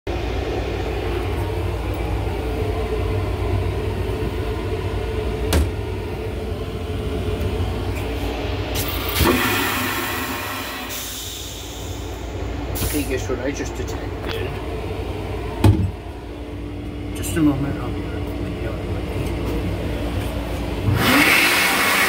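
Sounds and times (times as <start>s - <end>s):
train car rumbling: 0.1s - 21.2s.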